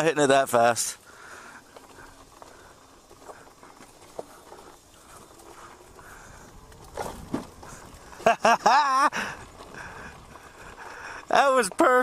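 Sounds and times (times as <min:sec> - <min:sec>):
bike tyres rolling on gravel: 0:00.0 - 0:12.0
bike bumps: 0:01.7 - 0:12.0.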